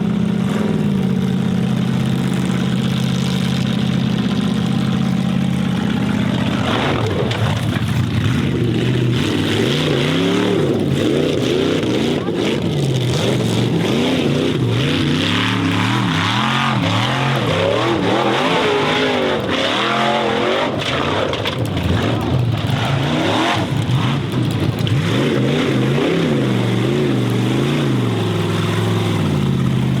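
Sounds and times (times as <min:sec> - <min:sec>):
buggy engine revving hard: 0:00.0 - 0:30.0.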